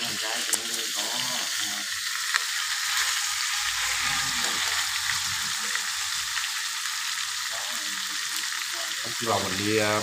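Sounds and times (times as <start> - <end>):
meat sizzling in hot oil: 0.0 - 10.0.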